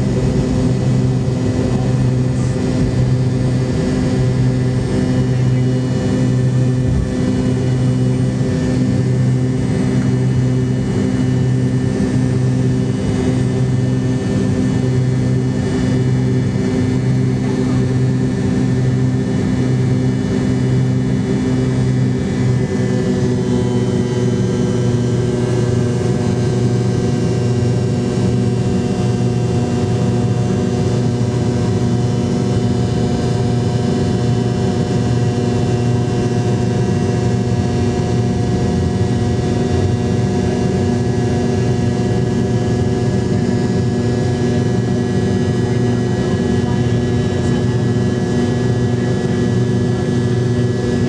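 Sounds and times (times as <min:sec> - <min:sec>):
jet engine drone in cabin: 0:00.0 - 0:51.0.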